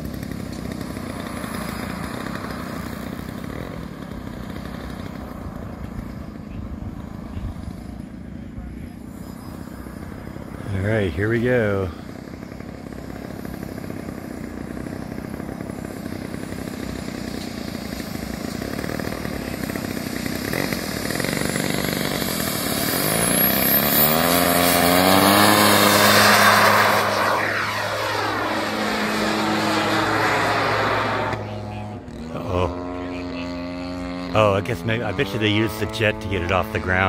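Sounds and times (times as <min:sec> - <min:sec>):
model airplane engine: 0:00.0 - 0:37.0.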